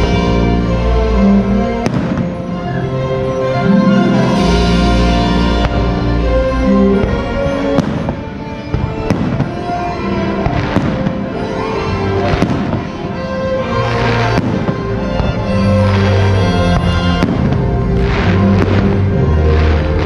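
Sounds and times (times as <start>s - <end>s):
music: 0.0s - 20.0s
fireworks bursting: 1.6s - 3.4s, 5.5s - 20.0s.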